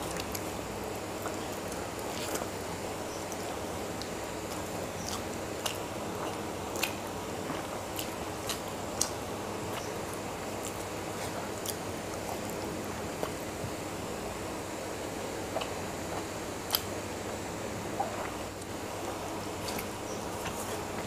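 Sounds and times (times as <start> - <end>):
close chewing and mouth sounds: 0.0 - 14.0, 15.3 - 21.0.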